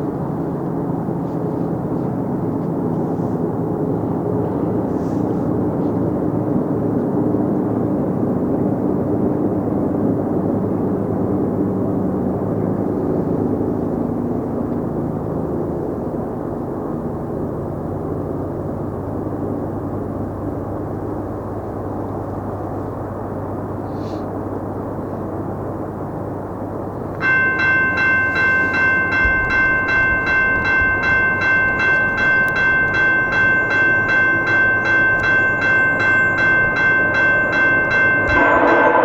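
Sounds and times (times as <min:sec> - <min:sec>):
diesel locomotive engines rumbling: 0:00.0 - 0:39.0.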